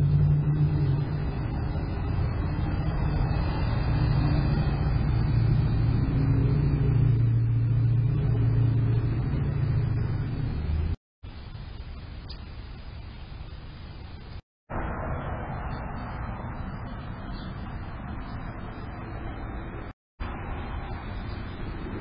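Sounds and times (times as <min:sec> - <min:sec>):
low engine hum: 0:00.0 - 0:11.0, 0:14.7 - 0:22.0.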